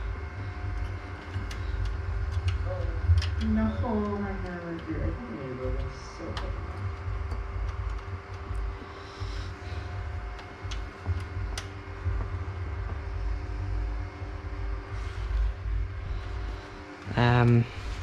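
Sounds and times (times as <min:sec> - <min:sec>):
faint steady hum: 0:00.0 - 0:18.0
low rumble: 0:00.0 - 0:18.0.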